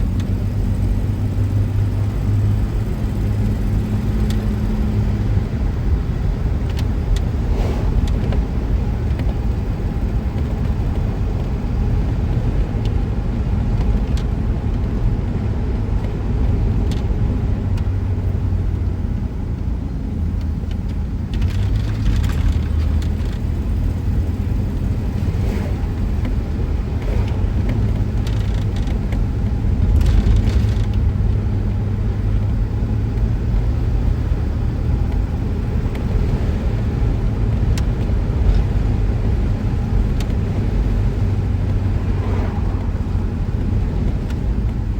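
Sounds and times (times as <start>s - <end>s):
road and engine rumble: 0.0s - 44.9s.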